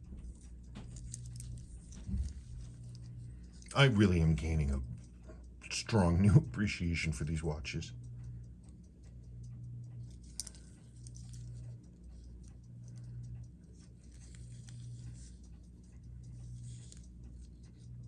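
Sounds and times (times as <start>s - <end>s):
clock ticking rapidly: 0.0s - 18.0s
low hum: 0.0s - 18.0s.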